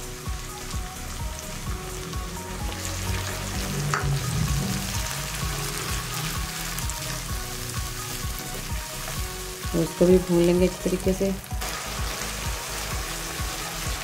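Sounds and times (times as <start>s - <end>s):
tomato sizzling in hot oil: 0.0s - 14.0s.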